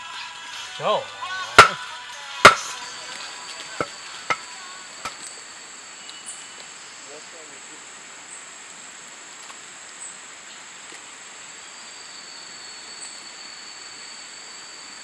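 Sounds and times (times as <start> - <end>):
forest ambience hiss: 0.0 - 15.0
insects high-pitched whine: 0.0 - 15.0
insects lower drone: 0.0 - 15.0.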